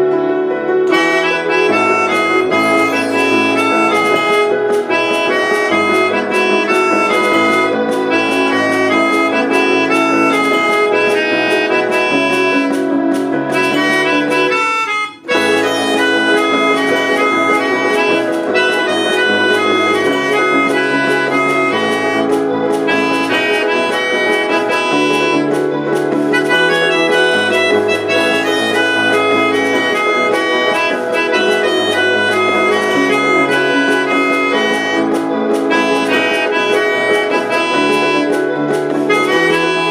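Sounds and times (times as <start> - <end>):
keyboard strings: 0.0 - 39.9
melodica melody: 0.0 - 39.9
upright piano: 0.0 - 39.9
percussion pad: 0.9 - 39.9.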